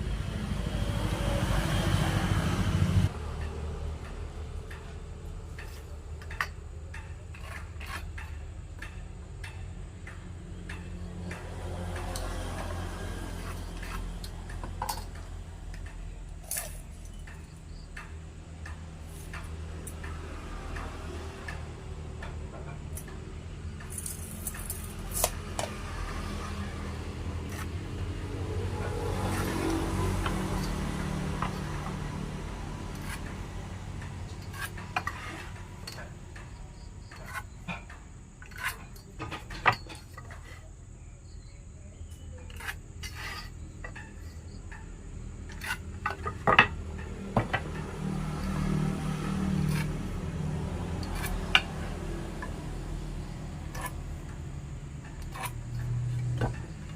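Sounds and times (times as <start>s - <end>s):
tools and wood clinking: 3.0s - 40.7s, 42.1s - 56.9s.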